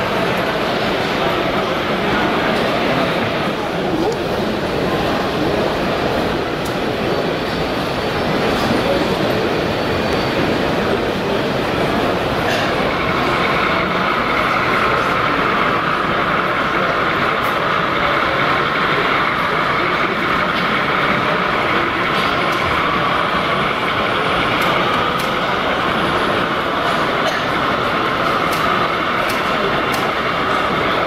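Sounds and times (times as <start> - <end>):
exhibition hall noise: 0.0 - 31.0
model locomotive whine: 0.0 - 31.0.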